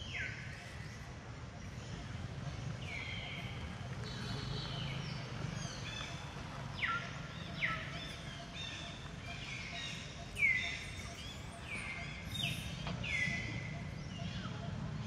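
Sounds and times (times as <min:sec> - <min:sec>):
birds whistled calls: 0:00.0 - 0:15.0.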